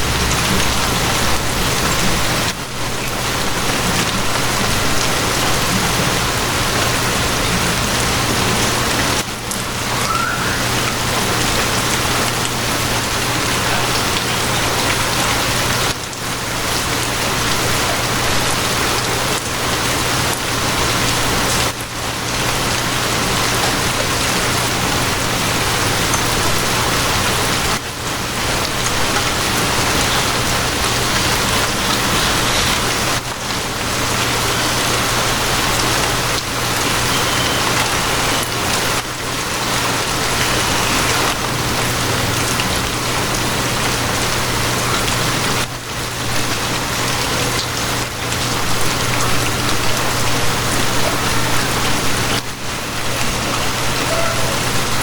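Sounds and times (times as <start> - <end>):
rain hissing: 0.0 - 55.0.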